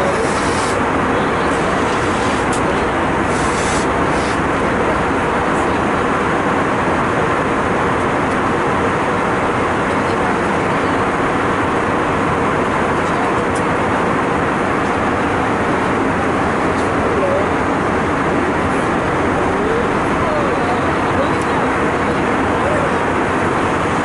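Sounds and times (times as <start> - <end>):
airliner cabin engine rush: 0.0 - 24.0.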